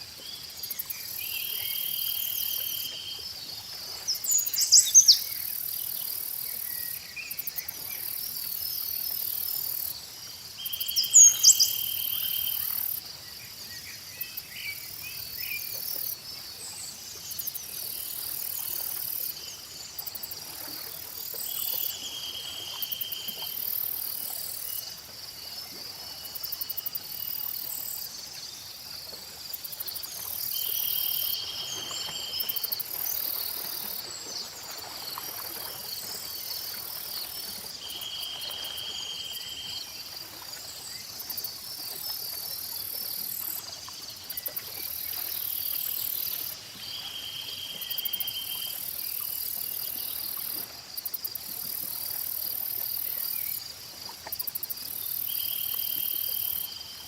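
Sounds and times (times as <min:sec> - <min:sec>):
crickets chirring: 0:00.0 - 0:57.0.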